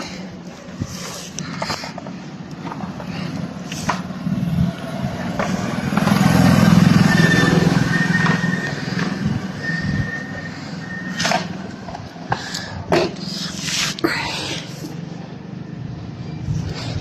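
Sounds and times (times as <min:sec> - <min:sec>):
passing vehicle engine hum: 0:02.1 - 0:17.0.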